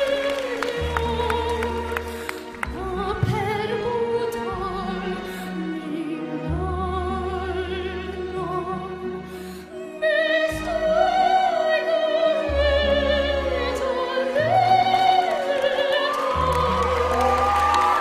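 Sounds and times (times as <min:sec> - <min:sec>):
girl singing operatic aria: 0:00.0 - 0:18.0
orchestral accompaniment: 0:00.0 - 0:18.0.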